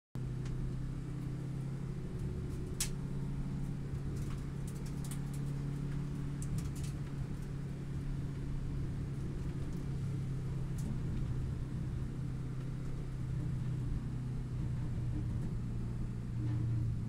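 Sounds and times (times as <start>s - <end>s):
car engine running hard: 0.2s - 17.0s.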